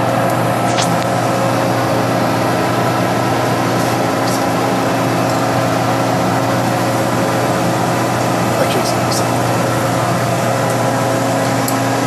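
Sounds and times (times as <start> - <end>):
electric motor hum: 0.0 - 12.0.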